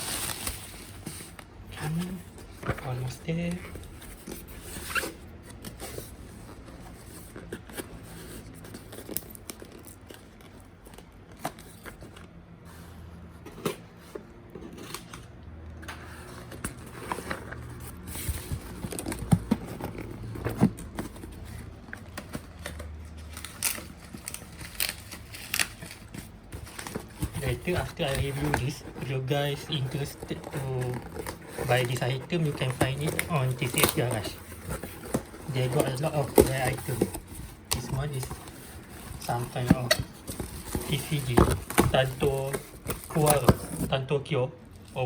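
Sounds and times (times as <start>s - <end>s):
packaging crinkling and tearing: 0.0s - 6.1s, 7.4s - 12.1s, 16.4s - 43.9s.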